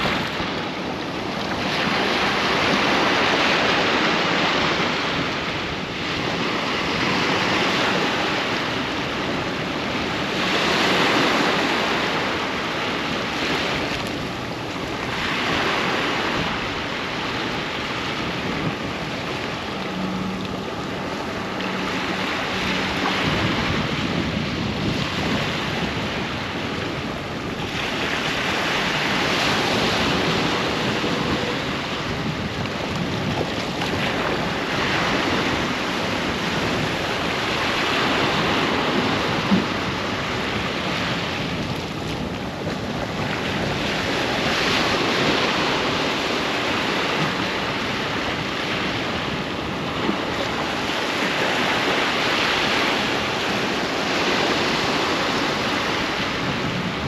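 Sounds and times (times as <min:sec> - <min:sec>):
sea waves breaking on a beach: 0:00.0 - 0:57.0.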